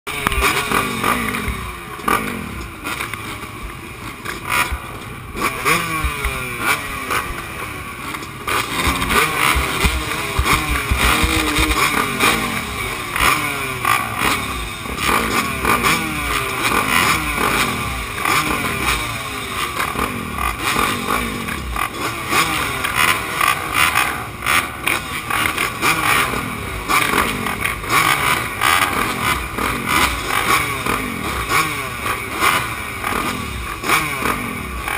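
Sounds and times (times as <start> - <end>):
motocross bike engines revving: 0.1 - 34.9.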